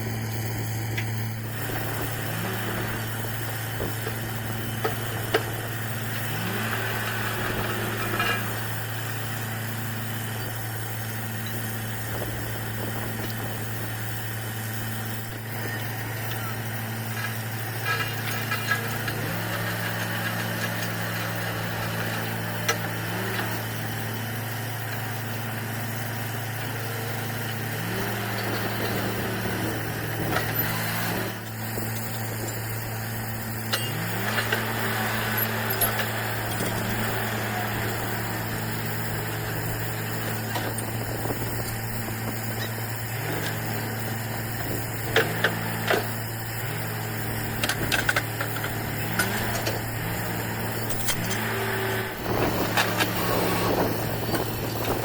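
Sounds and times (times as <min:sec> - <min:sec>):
drilling rig engine drone: 0:00.0 - 0:55.0.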